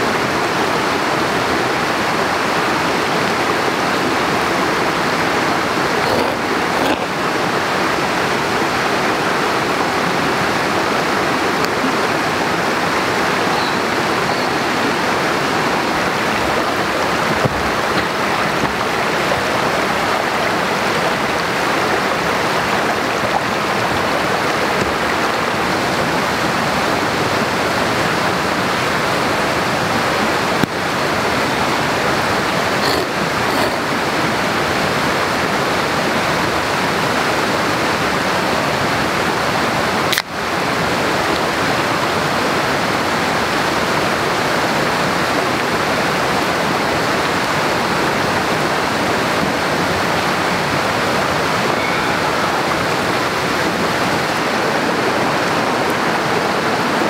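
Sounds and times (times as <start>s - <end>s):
stream water rushing over rocks: 0.0s - 57.0s.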